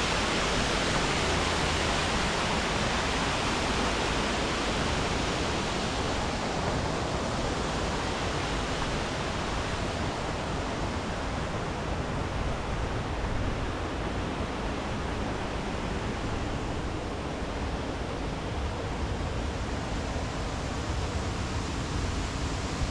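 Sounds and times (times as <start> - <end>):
steady rushing noise: 0.0 - 22.9.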